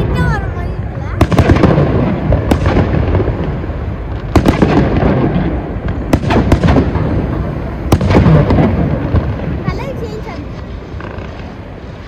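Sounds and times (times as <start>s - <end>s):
fireworks bangs: 0.0s - 12.0s
rolling rumble: 0.0s - 12.0s.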